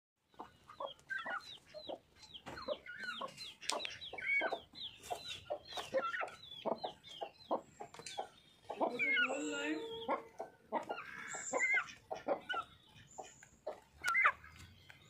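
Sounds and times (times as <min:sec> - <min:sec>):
chick peeping: 0:00.3 - 0:15.0
hen clucking: 0:00.3 - 0:15.0.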